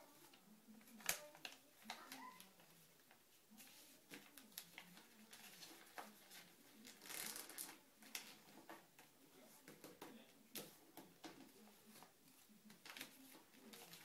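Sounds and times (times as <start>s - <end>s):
paper rustling and tapping: 0.2s - 14.0s.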